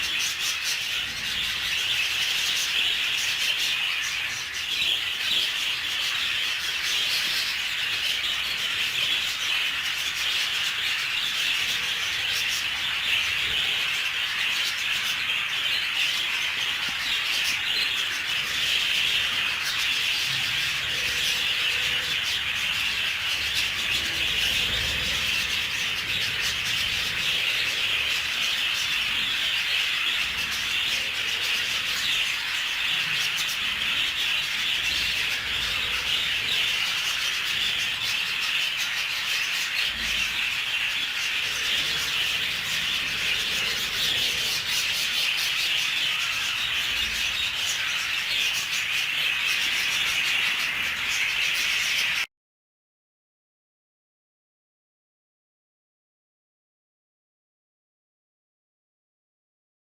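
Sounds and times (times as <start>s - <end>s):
budgerigars chattering and warbling: 0.0s - 52.3s.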